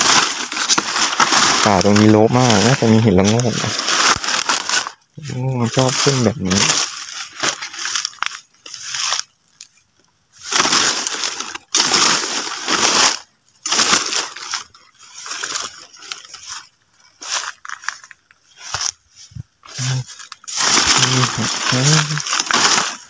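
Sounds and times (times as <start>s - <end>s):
footsteps through rustling undergrowth: 0.0s - 23.0s.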